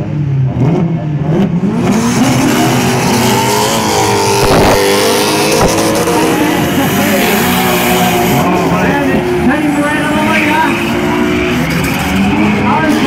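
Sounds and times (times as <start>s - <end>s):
car engines revving hard: 0.0s - 13.0s
rush of tyre noise: 0.0s - 13.0s.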